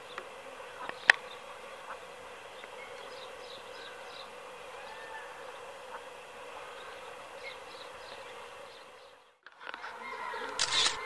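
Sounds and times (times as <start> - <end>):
insect-like buzzing: 0.0 - 11.0.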